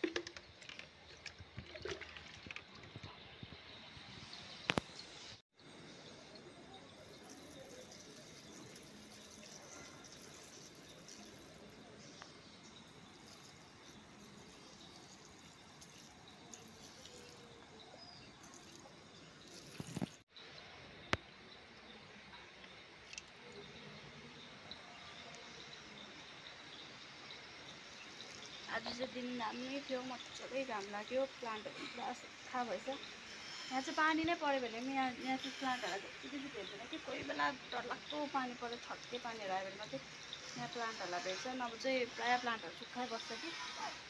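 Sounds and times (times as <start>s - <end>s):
water pouring and dripping: 0.0s - 5.4s, 6.0s - 33.6s, 36.4s - 44.0s.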